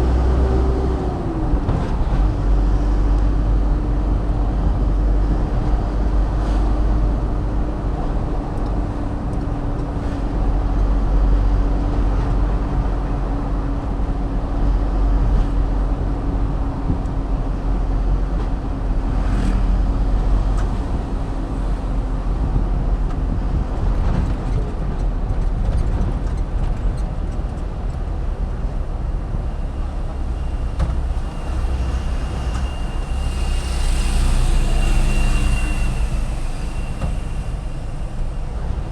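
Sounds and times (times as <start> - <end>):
engine and tyres rumbling: 0.0 - 38.9.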